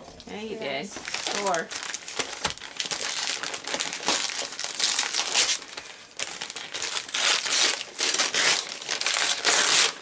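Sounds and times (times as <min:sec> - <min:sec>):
wrapping paper crinkling and tearing: 0:01.0 - 0:10.0.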